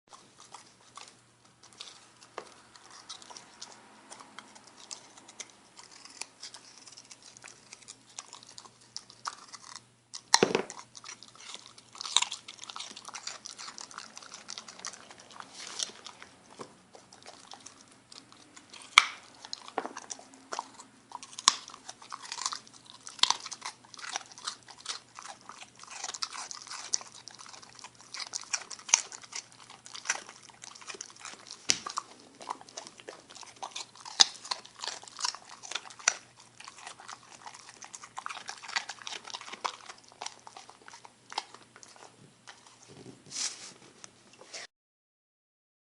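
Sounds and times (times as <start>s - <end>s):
puppy crunching a carrot: 0.1s - 44.6s.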